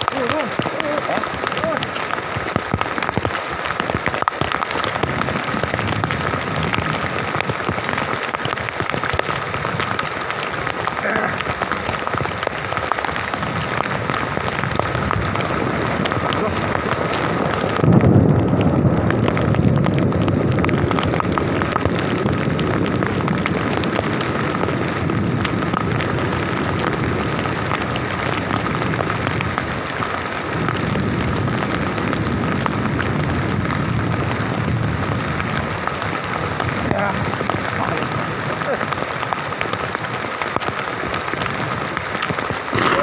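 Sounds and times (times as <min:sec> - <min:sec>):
steady rain: 0:00.0 - 0:43.0
thunder rumbling: 0:00.0 - 0:43.0.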